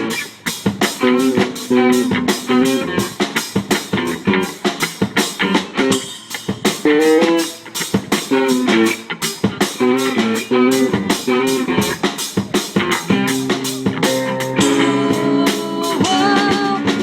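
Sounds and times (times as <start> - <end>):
bass guitar: 0.0 - 17.0
drum kit beat: 0.0 - 17.0
guitar chords: 0.0 - 17.0.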